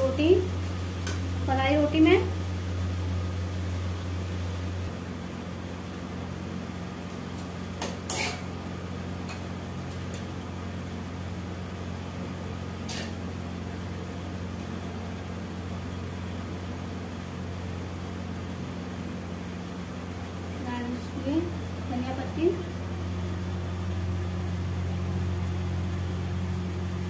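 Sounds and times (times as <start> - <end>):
low motor hum: 0.0 - 7.8, 8.5 - 27.0.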